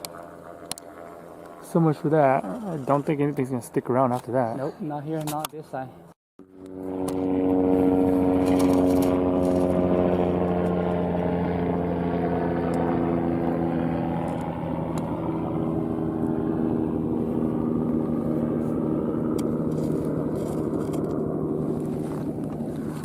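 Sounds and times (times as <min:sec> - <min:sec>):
helicopter engine and rotor: 0:00.0 - 0:03.1, 0:06.0 - 0:23.0.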